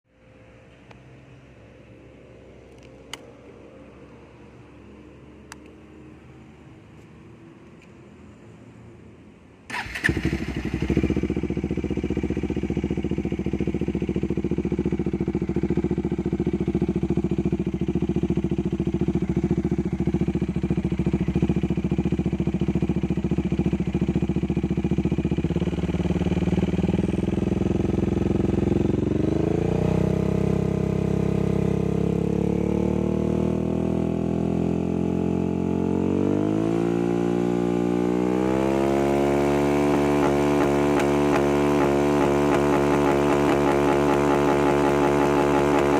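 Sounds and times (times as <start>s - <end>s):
motorcycle engine idling and revving: 0.1s - 45.9s.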